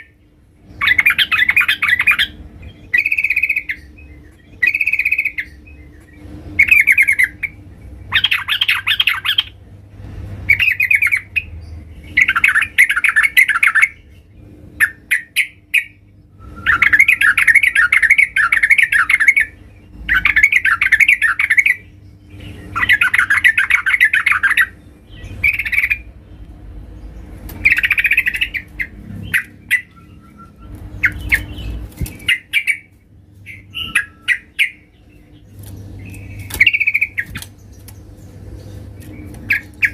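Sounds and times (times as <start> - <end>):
bird chattering calls: 0.7 - 9.6, 10.5 - 14.1, 14.7 - 16.0, 16.6 - 26.2, 27.6 - 39.9.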